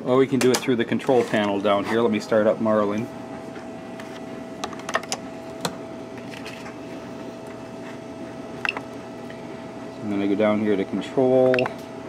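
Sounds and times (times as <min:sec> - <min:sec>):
faint electronics fan hum: 0:00.0 - 0:12.0.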